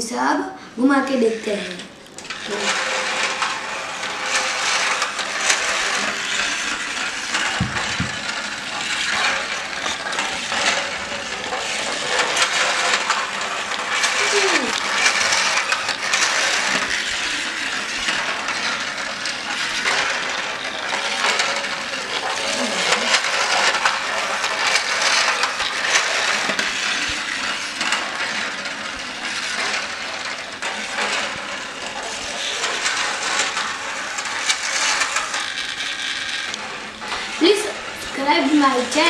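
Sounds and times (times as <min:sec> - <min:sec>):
toy train rattling on track: 0:00.8 - 0:39.0.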